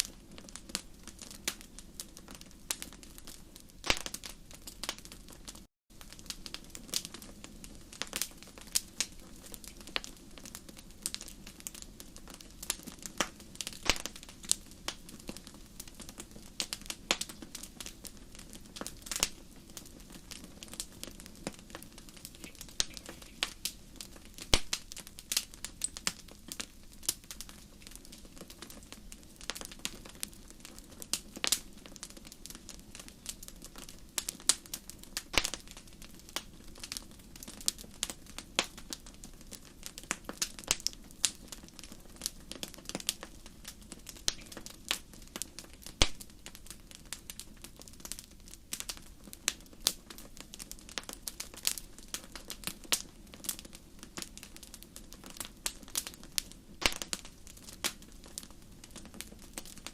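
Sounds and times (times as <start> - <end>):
low steady hiss: 0.0 - 59.9
wood fire crackling: 0.0 - 59.9.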